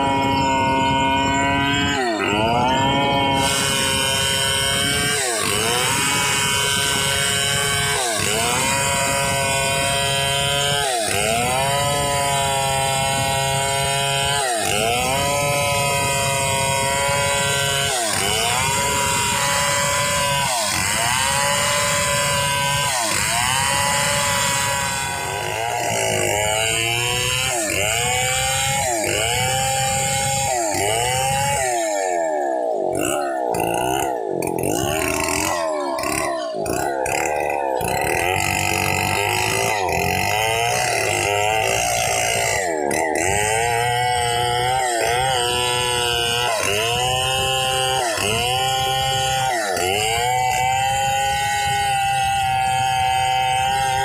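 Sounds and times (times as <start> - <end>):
chainsaw cutting a log: 0.0 - 54.0.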